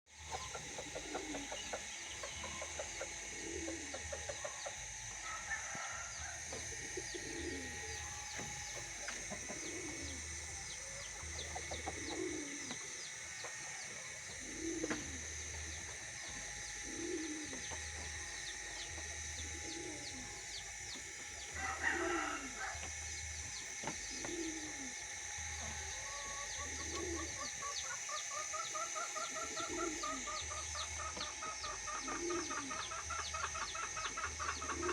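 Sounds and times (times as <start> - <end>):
dense high bird chirping: 0.2 - 34.9
low cooing bird call: 0.2 - 34.9
steady high hiss: 0.2 - 34.9.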